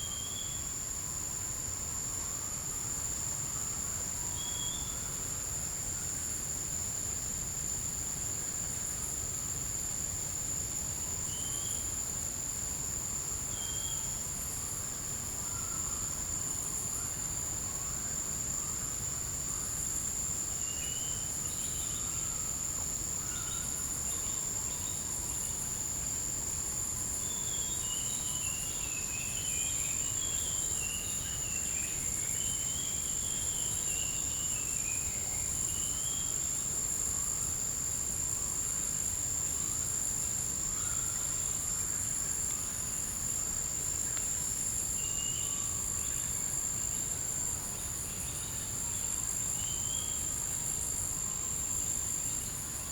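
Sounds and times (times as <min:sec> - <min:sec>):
insect chorus trilling: 0:00.0 - 0:52.9.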